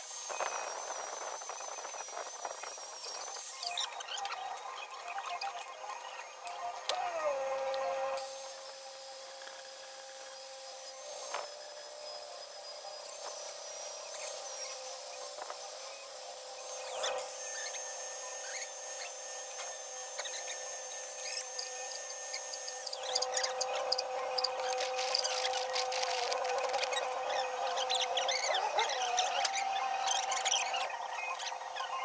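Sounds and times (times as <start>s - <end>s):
angle grinder cutting steel: 0.0s - 31.9s.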